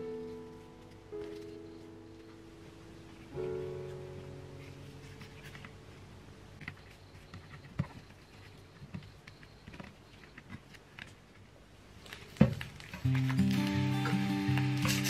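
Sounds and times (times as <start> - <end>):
leaf parcels crinkling and tapping: 0.1 - 15.0.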